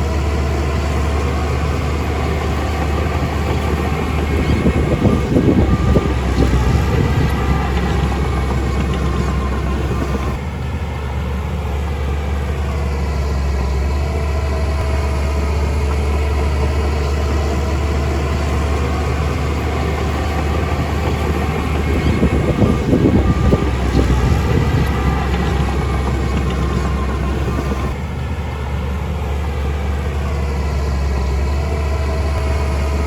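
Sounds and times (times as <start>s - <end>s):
diesel machinery engine drone: 0.0s - 33.0s.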